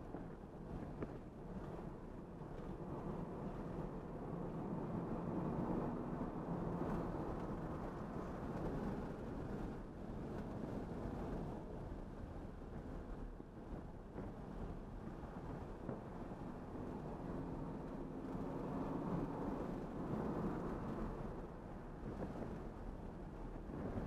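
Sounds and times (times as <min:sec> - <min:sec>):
wind noise: 0:00.0 - 0:24.0.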